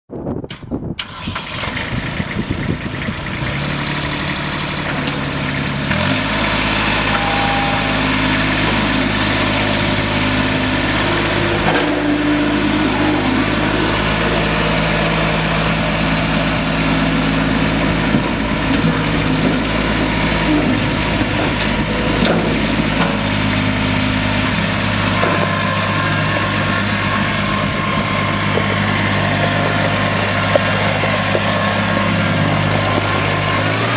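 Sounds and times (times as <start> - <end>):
tractor diesel engine running: 0.8 - 33.9.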